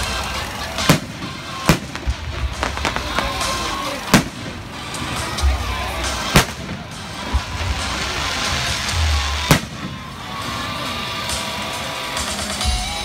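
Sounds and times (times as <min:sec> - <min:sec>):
fireworks bangs: 0:00.0 - 0:13.0
music: 0:00.0 - 0:13.0.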